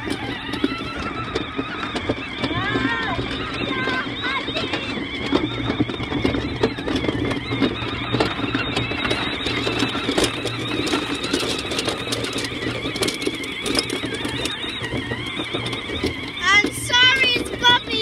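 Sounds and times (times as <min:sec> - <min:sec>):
electric motors whining: 0:00.0 - 0:18.0
small clicks and knocks: 0:00.0 - 0:18.0
water splashing around wheels: 0:00.0 - 0:18.0.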